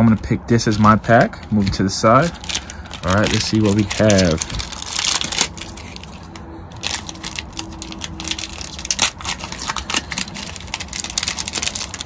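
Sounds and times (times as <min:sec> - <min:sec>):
plastic wrapper crinkling and tearing: 0:00.1 - 0:12.0.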